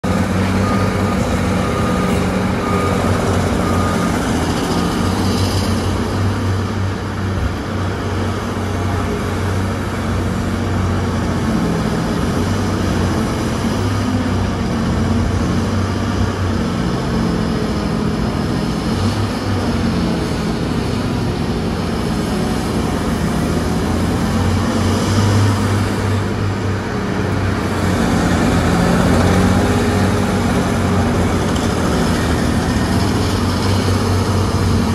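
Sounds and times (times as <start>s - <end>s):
mining excavator engines droning: 0.0s - 34.9s.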